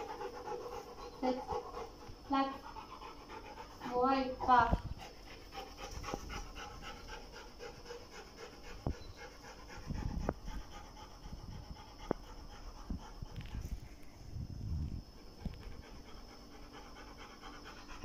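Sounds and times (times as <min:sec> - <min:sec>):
dog panting: 0:00.0 - 0:14.0, 0:15.2 - 0:18.0.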